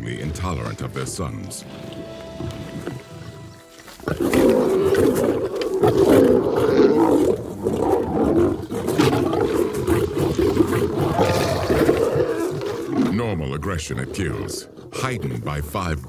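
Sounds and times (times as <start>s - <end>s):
lions growling and snarling: 1.8s - 16.0s.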